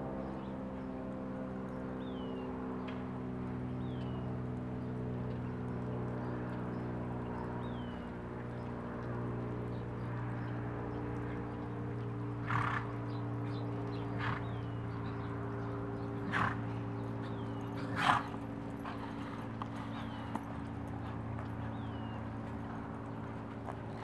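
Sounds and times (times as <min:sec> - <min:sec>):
steady low hum: 0:00.0 - 0:24.0
horse loping on dirt: 0:00.1 - 0:24.0.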